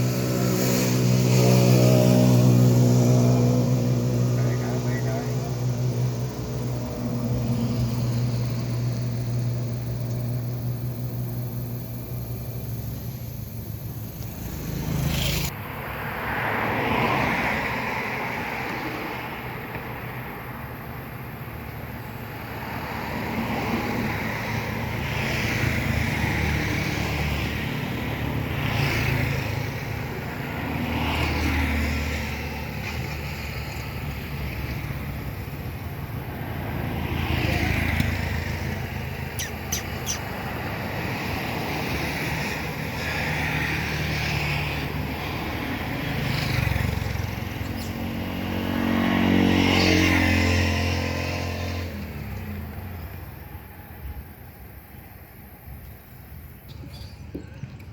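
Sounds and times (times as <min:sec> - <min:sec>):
loud engine passing close: 0:00.0 - 0:56.7
traffic rumble: 0:00.0 - 0:57.9.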